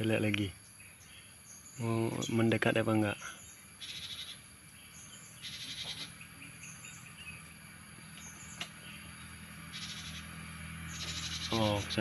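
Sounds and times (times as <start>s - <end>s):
birds giving buzzy rattling chatter: 0.0s - 12.0s
high insect hiss: 0.0s - 12.0s
thin high bird chirps: 0.0s - 12.0s.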